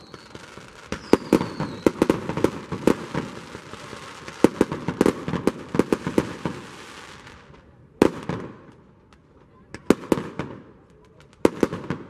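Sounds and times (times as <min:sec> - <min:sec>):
fireworks cracking and banging: 0:00.0 - 0:12.0
fireworks crackling hiss: 0:00.0 - 0:12.0.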